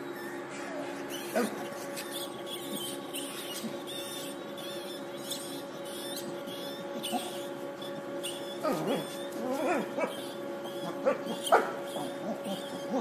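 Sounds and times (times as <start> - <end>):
steady background hum: 0.0 - 13.0
dog whining: 0.1 - 13.0
mouse squeaking: 1.1 - 13.0.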